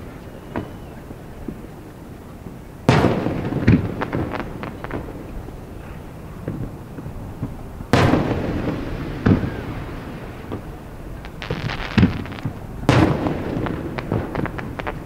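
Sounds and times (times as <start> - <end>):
fireworks booming: 0.0 - 1.8, 2.4 - 15.0
fireworks crackling: 0.0 - 15.0.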